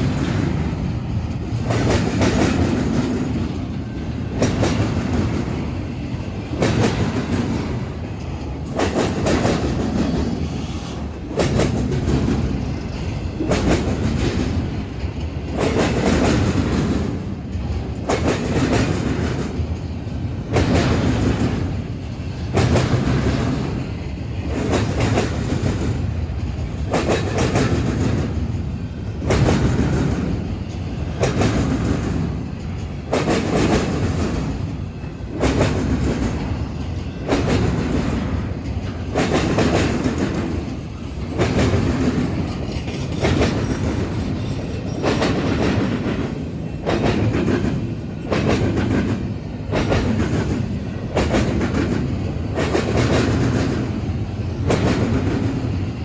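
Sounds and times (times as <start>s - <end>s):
train rumble: 0.0s - 56.0s
train wheels clacking over crossing: 0.0s - 56.0s.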